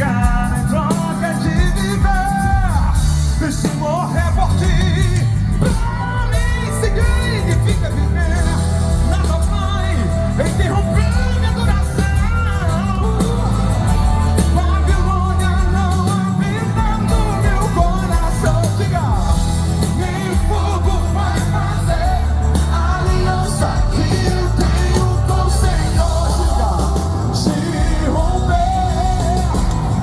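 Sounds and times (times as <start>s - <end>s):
live gospel band playing: 0.0s - 30.0s.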